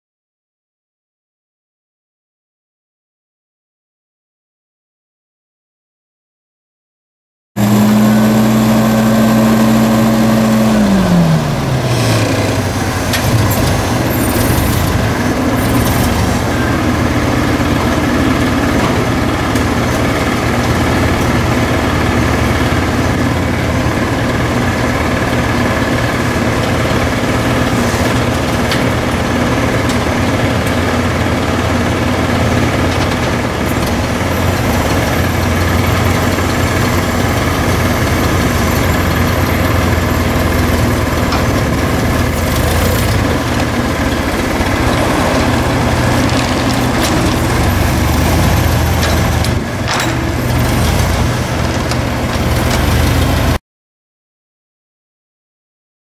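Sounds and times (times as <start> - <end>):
forklift engine running: 7.6 - 53.6.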